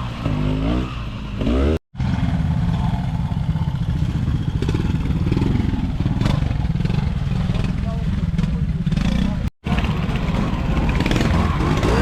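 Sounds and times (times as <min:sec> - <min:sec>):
motorcycle engine revving: 0:00.0 - 0:12.0
motorcycle engine running at low revs: 0:00.0 - 0:12.0.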